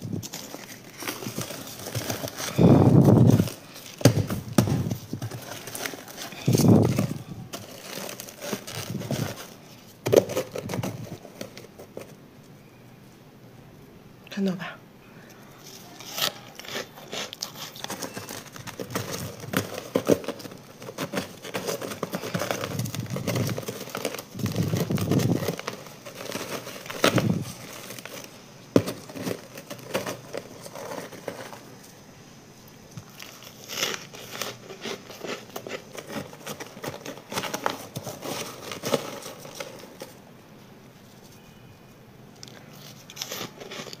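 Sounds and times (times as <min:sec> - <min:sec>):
plastic rustling: 0:00.0 - 0:12.6, 0:15.6 - 0:41.7, 0:42.5 - 0:44.0
freezer frost crunching: 0:00.0 - 0:12.8, 0:15.5 - 0:32.0, 0:32.6 - 0:40.3, 0:42.4 - 0:44.0.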